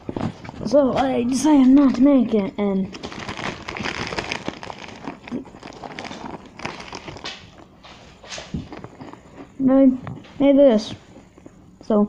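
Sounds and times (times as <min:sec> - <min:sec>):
objects rustling and rubbing: 0:00.0 - 0:12.0.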